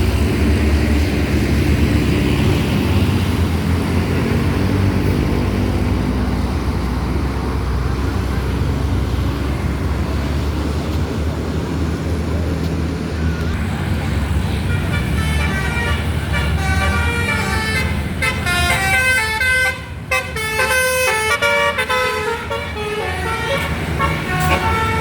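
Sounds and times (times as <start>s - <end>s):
bus engine rumbling: 0.0s - 25.0s.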